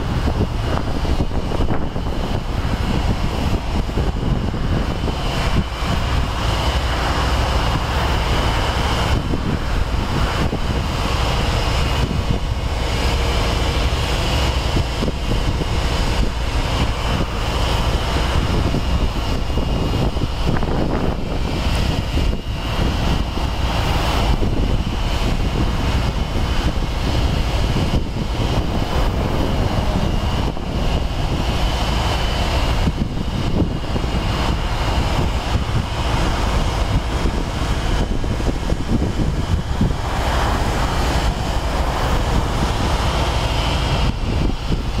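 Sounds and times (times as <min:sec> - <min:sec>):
diesel engines and pumps droning: 0:00.0 - 0:45.0.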